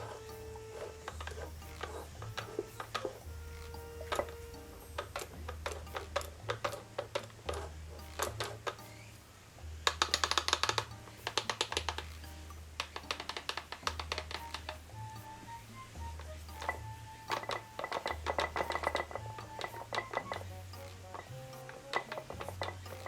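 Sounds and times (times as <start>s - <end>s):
crisp clicking percussion: 0.0s - 23.0s.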